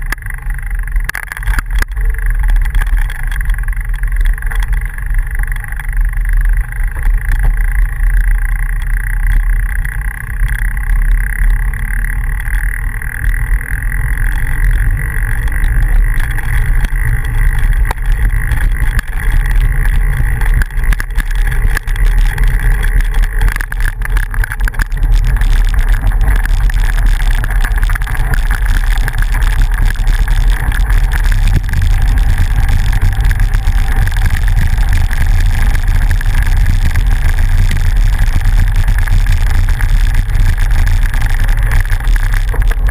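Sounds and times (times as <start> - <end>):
bicycle rattling over bumps: 0.0 - 42.9
wind and road vibration rumble: 0.0 - 42.9.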